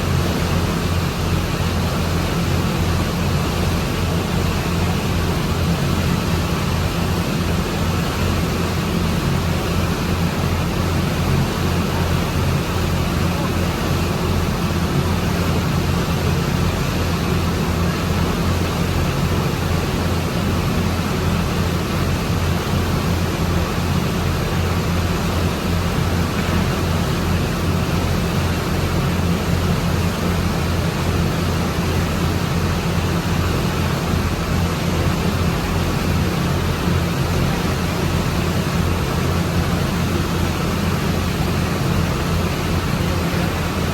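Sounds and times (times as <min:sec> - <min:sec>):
low engine drone: 0:00.0 - 0:43.9.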